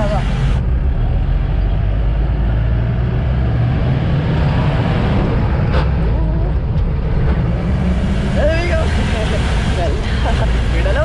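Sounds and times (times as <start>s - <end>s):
jeep engine rumbling: 0.0s - 11.0s.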